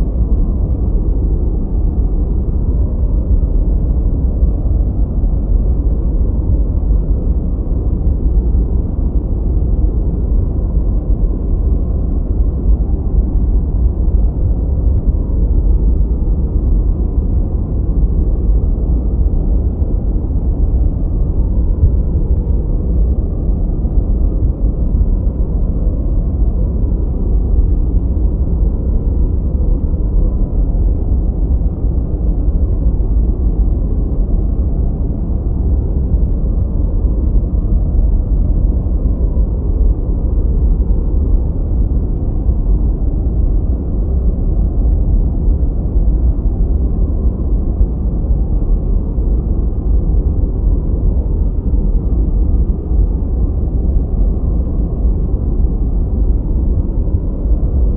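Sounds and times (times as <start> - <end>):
deep dark noise: 0.0 - 57.9.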